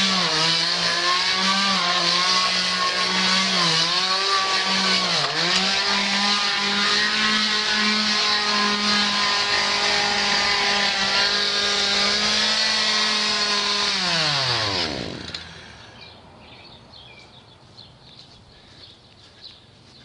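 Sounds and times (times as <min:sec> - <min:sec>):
chainsaw engine running: 0:00.0 - 0:16.1.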